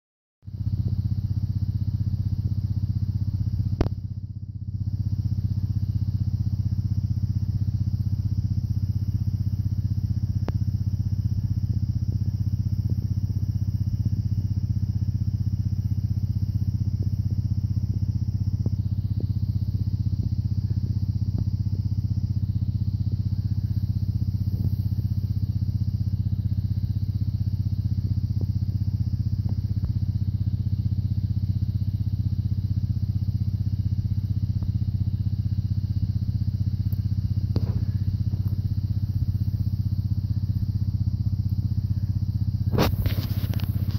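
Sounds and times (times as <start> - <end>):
engine idling: 0.4 - 43.9.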